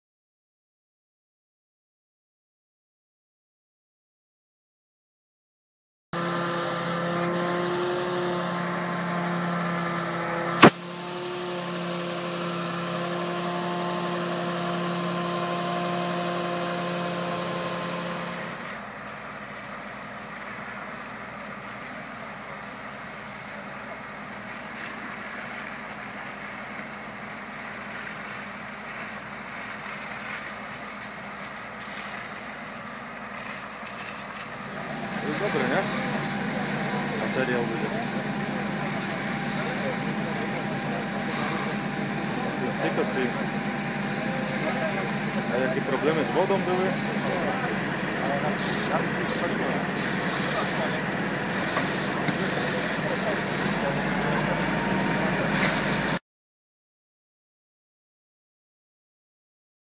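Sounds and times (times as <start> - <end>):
fire engine droning: 6.2 - 56.2.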